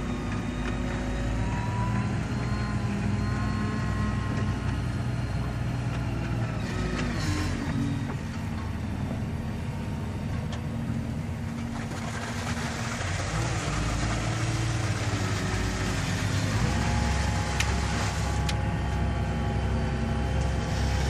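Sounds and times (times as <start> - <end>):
engine running with low hum: 0.0 - 21.0.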